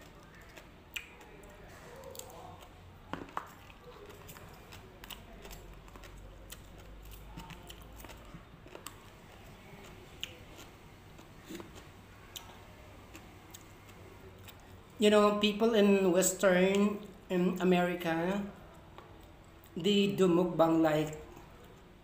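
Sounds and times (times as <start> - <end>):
quiet chewing: 0.0 - 15.0, 16.6 - 17.3, 18.5 - 19.8, 21.0 - 22.0.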